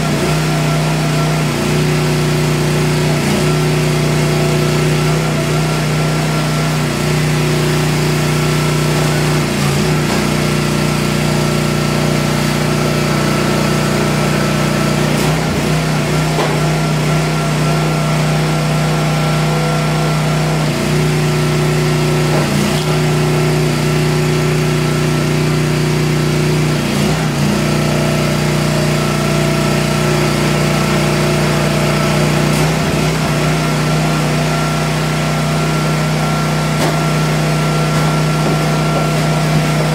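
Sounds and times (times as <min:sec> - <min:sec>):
log splitter motor and pump: 0:00.0 - 0:39.9.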